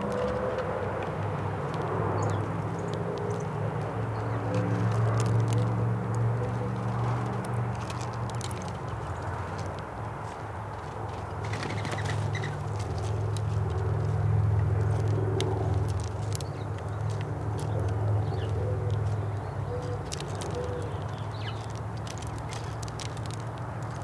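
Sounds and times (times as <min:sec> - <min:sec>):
low engine hum: 0:00.0 - 0:24.0.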